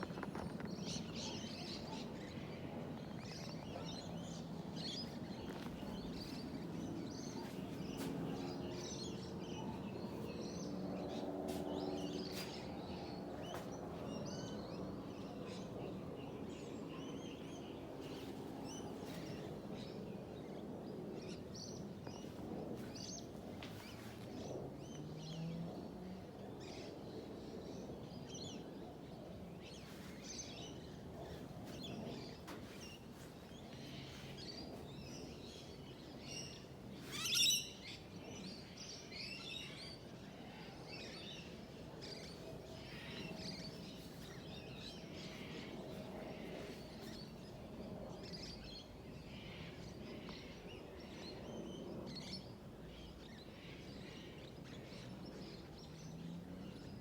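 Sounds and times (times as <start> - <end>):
small birds chirping: 0.0 - 25.5, 27.7 - 57.0.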